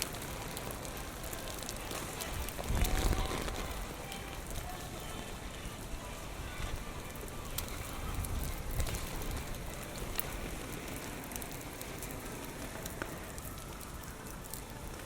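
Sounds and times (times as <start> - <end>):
heavy rain falling: 0.0 - 15.0
wind buffeting microphone: 1.3 - 15.0.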